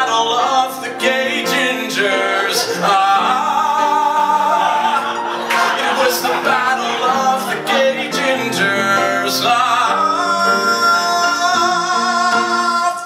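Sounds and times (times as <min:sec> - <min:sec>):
instrumental accompaniment: 0:00.0 - 0:13.0
man singing: 0:00.0 - 0:13.0.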